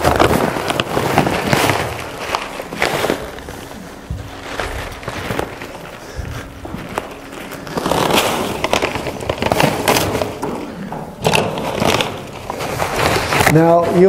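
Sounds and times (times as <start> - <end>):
bag crinkling: 0.0 - 14.0.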